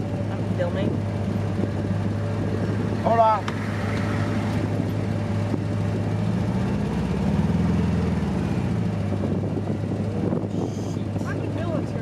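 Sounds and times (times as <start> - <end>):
road noise on sandy track: 0.0 - 12.0
vehicle engine running: 0.0 - 12.0.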